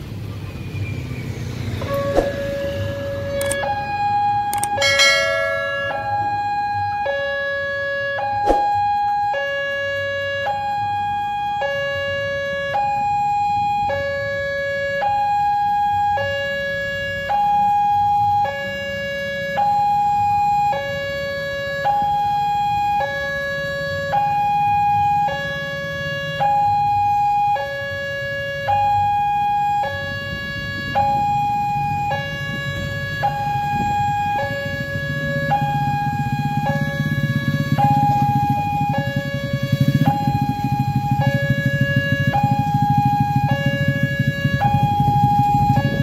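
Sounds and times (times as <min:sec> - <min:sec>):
two-tone level crossing alarm: 0:01.8 - 0:46.0.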